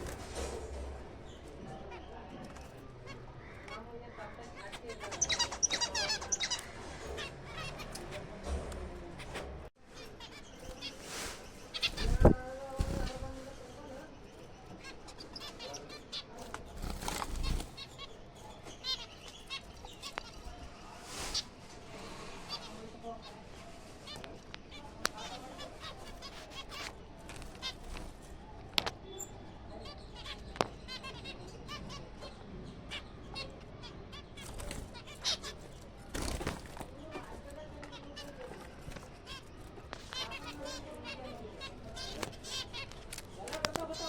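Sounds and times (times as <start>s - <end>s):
finches chirping: 1.1s - 8.4s, 9.0s - 21.7s, 22.3s - 44.0s.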